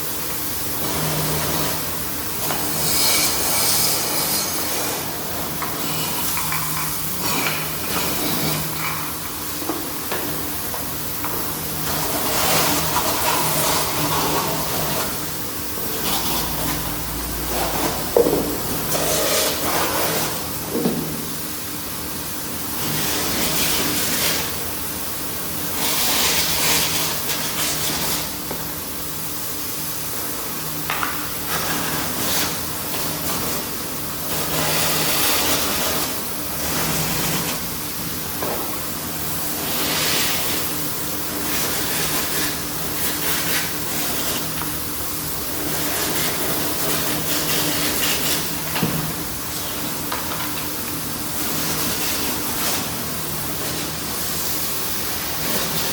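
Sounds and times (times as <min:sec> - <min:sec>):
steady machine hum: 0:00.0 - 0:55.9.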